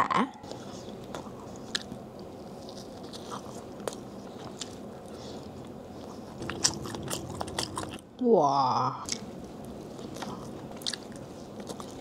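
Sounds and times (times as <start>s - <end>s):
biting and chewing cake: 0.4s - 8.1s, 9.0s - 12.0s.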